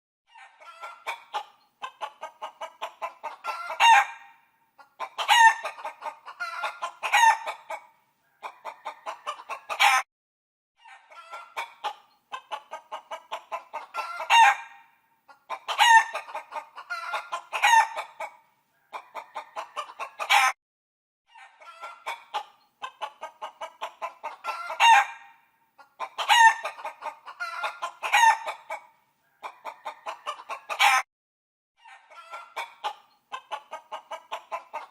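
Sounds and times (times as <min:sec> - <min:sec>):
hen clucking: 0:00.3 - 0:10.0, 0:10.8 - 0:20.6, 0:21.3 - 0:31.0, 0:31.8 - 0:34.9.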